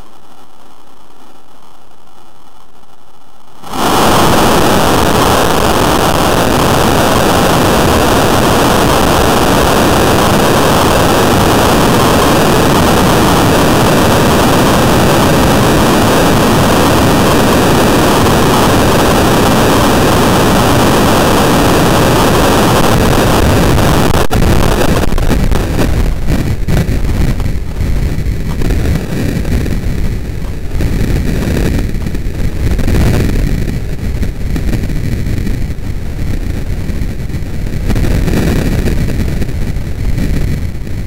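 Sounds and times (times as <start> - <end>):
air rushing over microphone: 3.6 - 41.0.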